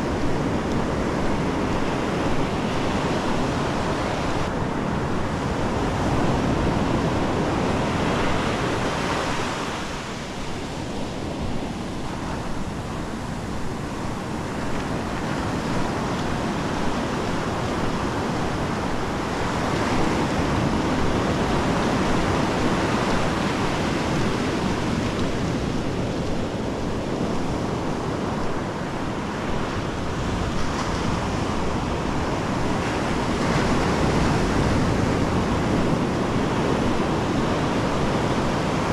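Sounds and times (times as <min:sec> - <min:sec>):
waves breaking on beach: 0:00.0 - 0:38.9
wind on microphone: 0:00.0 - 0:38.9.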